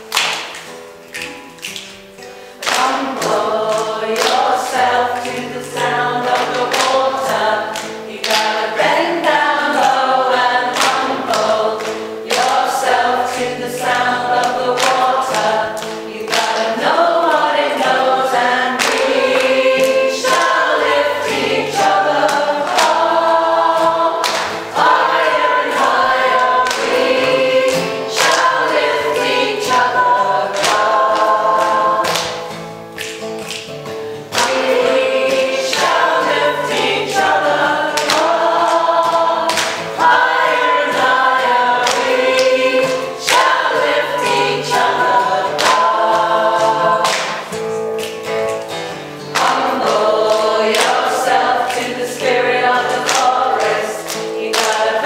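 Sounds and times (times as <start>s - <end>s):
acoustic guitar: 0.0s - 55.0s
hand claps: 0.0s - 55.0s
choir singing: 2.6s - 32.5s, 34.3s - 47.8s, 49.3s - 55.0s.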